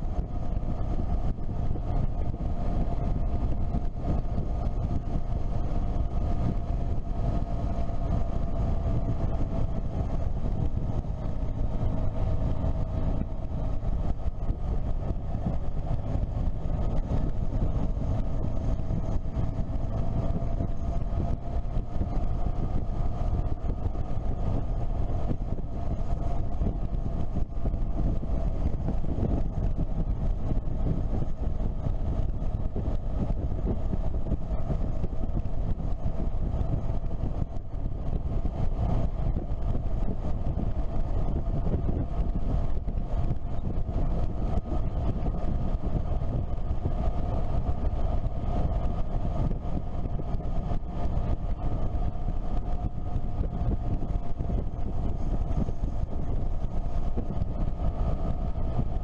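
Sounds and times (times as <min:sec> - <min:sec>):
motorcycle engine cruising: 0:00.0 - 0:59.0
wind buffeting microphone: 0:00.0 - 0:59.0.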